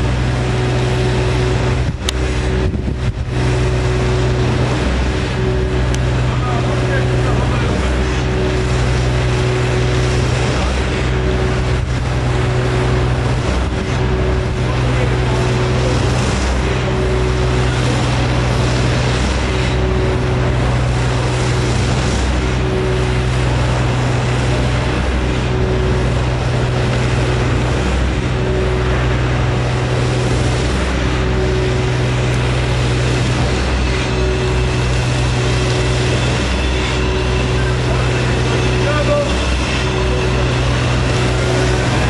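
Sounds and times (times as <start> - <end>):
deep machine drone: 0.0 - 42.0.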